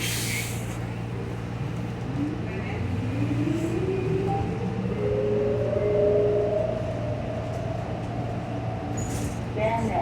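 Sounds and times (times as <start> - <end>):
trolleybus electric drive whine: 0.0 - 10.0.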